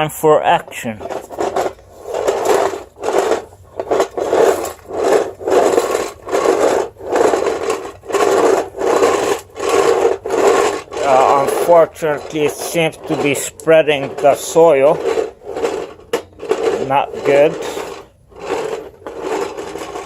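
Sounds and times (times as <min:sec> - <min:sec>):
carpet sweeper brushes on tile: 0:00.0 - 0:20.0.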